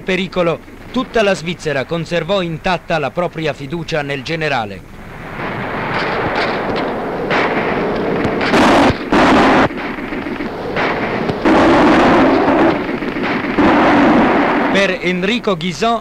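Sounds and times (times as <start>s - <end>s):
continuous rumble and hiss: 0.0s - 16.0s
loud explosions: 0.0s - 16.0s.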